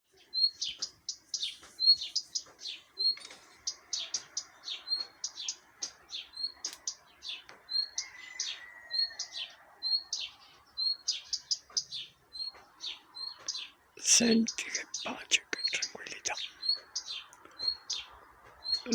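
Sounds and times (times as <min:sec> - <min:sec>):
small birds chirping and twittering: 0:00.1 - 0:18.9.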